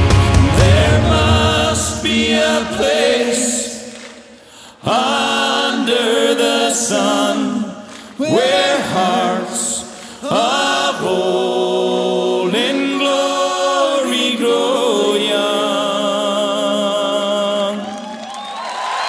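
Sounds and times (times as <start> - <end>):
song with choir-like vocals: 0.0 - 18.9.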